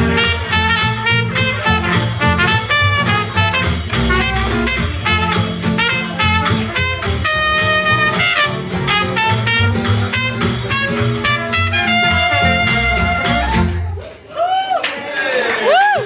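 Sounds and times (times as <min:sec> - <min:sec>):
trombone: 0:00.0 - 0:13.8
trumpet: 0:00.0 - 0:13.9
acoustic guitar: 0:00.0 - 0:14.0
upright bass: 0:00.0 - 0:14.0.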